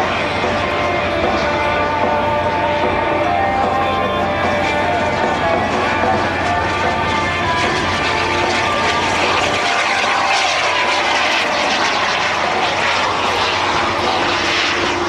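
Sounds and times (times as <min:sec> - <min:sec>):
jet turbine whine: 0:00.0 - 0:15.0.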